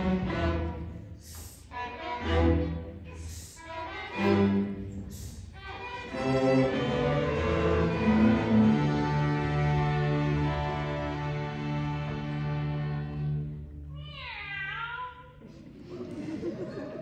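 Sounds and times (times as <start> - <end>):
string orchestra playing: 0.0 - 13.9.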